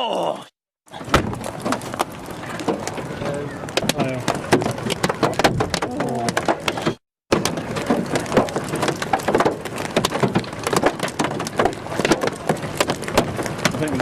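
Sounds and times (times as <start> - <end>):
hailstones hitting a car: 0.9 - 14.0.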